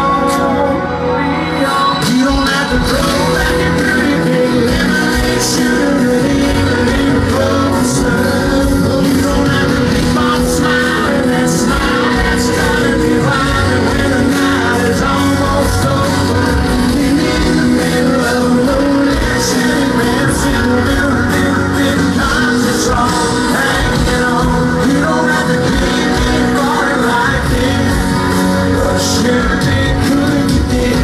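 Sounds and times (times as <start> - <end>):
live country band playing: 0.0 - 31.0.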